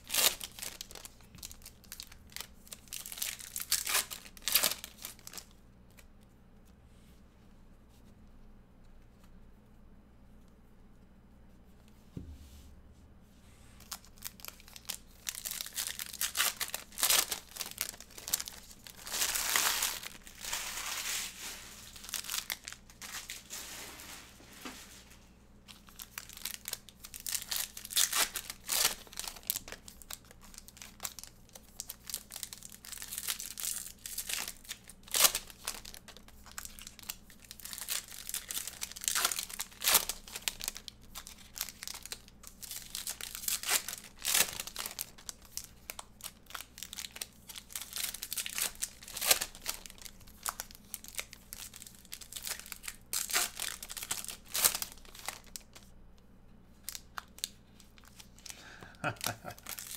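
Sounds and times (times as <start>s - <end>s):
foil wrappers crinkling and tearing: 0.0s - 5.6s, 13.8s - 55.9s, 56.8s - 59.9s.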